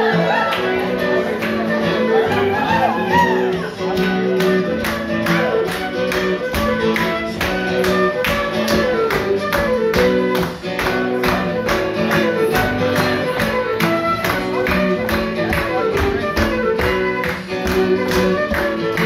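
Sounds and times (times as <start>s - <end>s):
strummed folk music: 0.0s - 19.0s.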